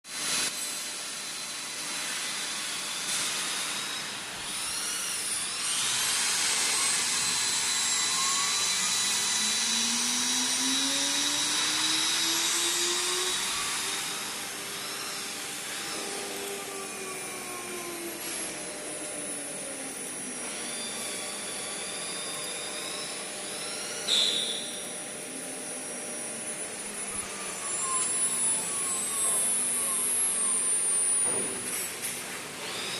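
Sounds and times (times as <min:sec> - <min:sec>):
router spindle motor whining: 0:02.8 - 0:32.9.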